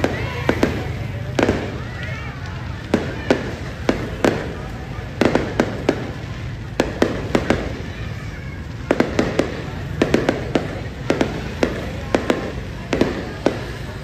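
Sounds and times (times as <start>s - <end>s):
fireworks cracks and bangs: 0.0s - 14.0s.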